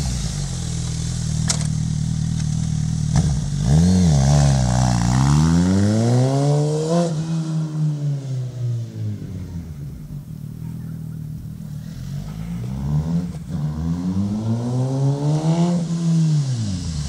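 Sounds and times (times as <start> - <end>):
motorcycle engine passing: 0.0 - 17.0.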